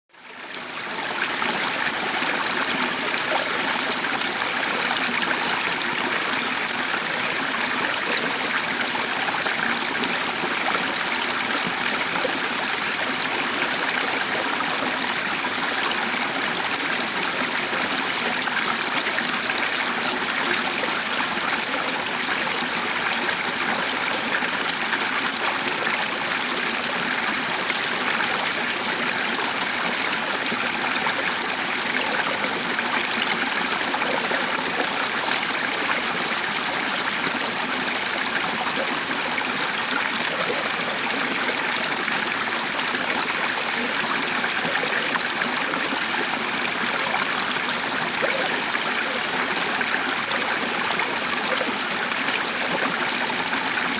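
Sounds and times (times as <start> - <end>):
stream of water flowing: 0.1 - 53.9.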